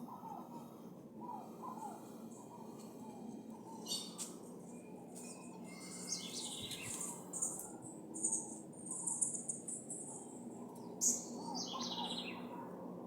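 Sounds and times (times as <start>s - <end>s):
steady low hum: 0.0s - 13.0s
small birds chirping: 1.6s - 12.6s.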